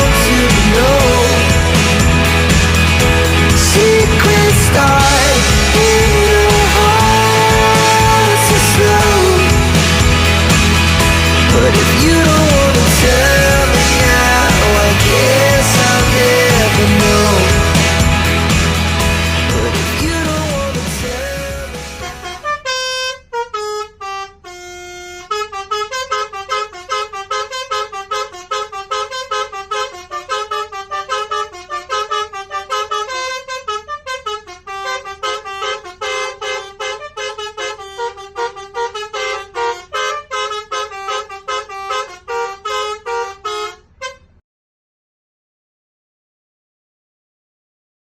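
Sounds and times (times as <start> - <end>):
multi-tone bus horn tune: 0.0 - 44.4.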